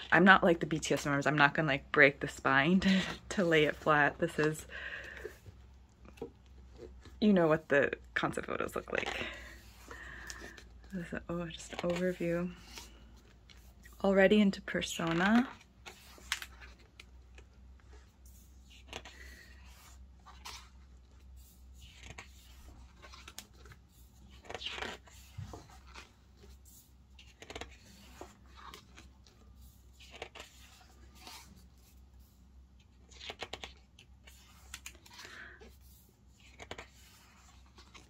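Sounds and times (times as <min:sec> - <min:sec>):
book pages turning: 0:02.2 - 0:07.7, 0:08.3 - 0:38.0.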